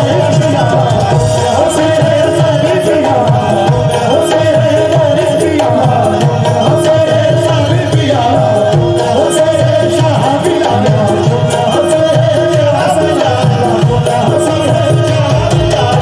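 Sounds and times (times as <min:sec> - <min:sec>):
hand drum rhythm: 0:00.0 - 0:16.0
harmonium melody: 0:00.0 - 0:16.0.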